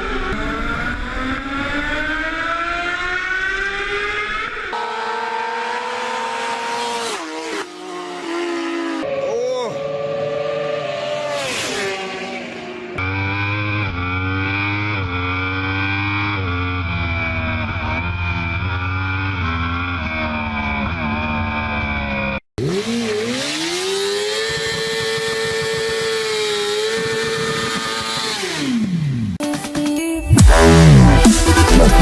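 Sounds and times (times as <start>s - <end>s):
engine revving high: 0.0s - 29.4s, 30.2s - 32.0s
motorcycle accelerating through gears: 0.0s - 29.4s.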